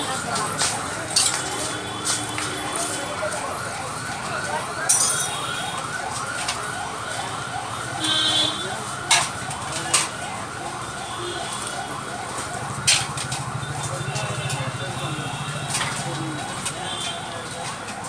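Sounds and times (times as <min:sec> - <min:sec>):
street noise: 0:00.0 - 0:18.0.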